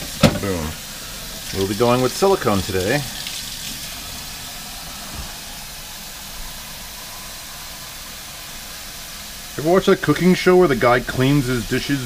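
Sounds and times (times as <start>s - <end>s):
onion sizzling in a pan: 0.0s - 12.0s.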